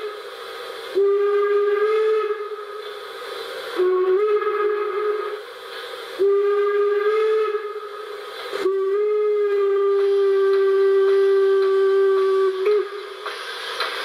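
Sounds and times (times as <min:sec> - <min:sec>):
steam locomotive whistle: 0:00.0 - 0:13.9
steam hiss: 0:00.0 - 0:14.0.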